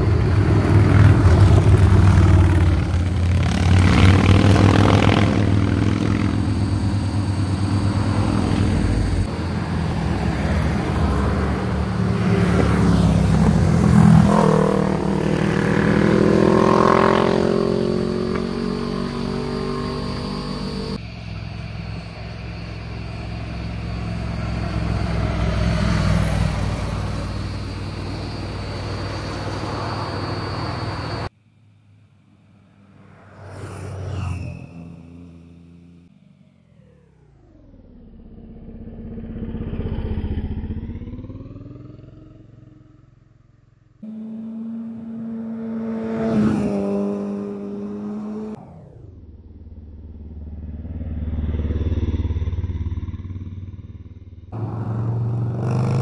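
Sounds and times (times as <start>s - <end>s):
motorcycles passing: 0.0s - 31.3s, 38.0s - 56.0s
car passing: 0.0s - 37.6s, 44.0s - 56.0s.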